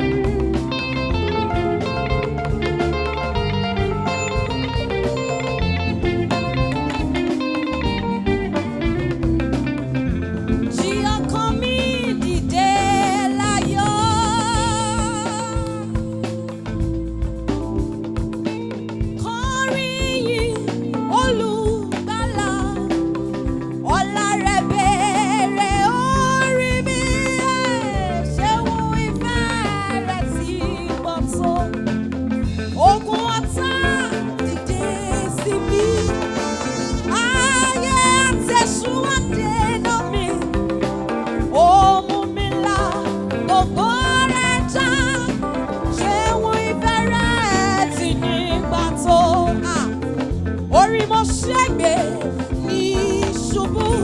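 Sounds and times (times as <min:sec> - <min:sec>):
band playing gospel music: 0:00.0 - 0:54.0
wavering gliding lead melody: 0:00.0 - 0:54.0.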